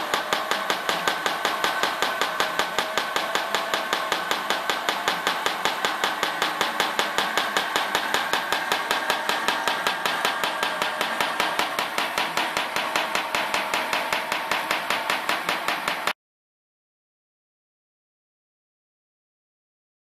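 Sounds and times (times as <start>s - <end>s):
rapid mechanical clicking: 0.0s - 16.2s.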